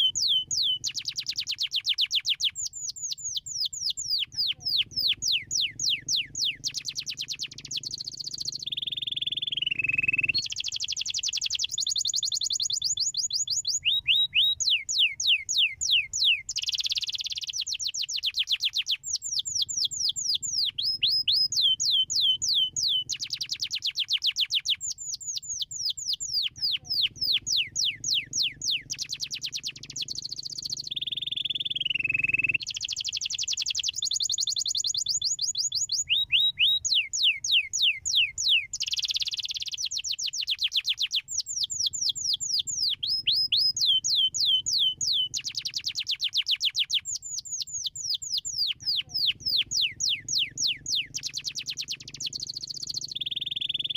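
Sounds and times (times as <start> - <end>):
canary singing trills: 0.0 - 53.9
faint low hum: 0.0 - 53.9.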